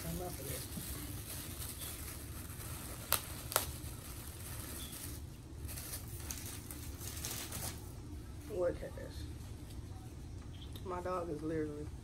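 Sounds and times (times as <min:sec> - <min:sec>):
low hum of room noise: 0:00.0 - 0:12.0.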